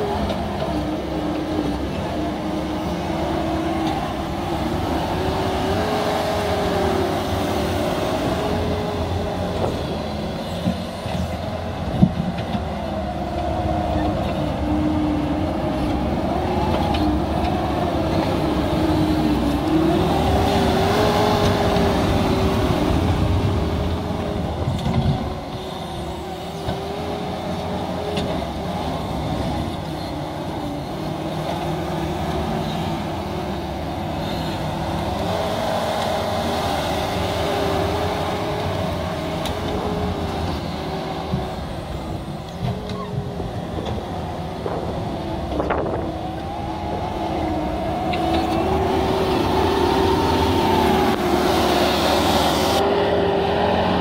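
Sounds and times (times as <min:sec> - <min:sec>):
track loader engine whine: 0:00.0 - 0:54.0.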